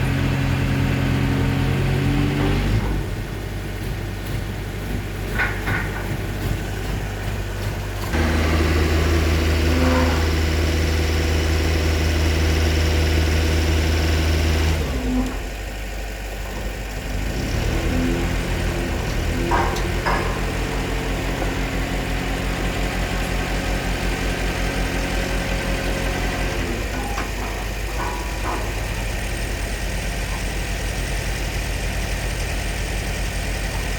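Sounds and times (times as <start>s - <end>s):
pile press engine running: 0.0s - 33.9s.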